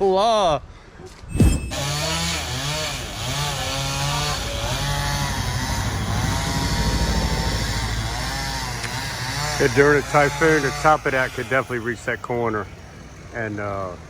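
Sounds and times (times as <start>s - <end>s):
chainsaw cutting a tree: 1.7s - 14.0s.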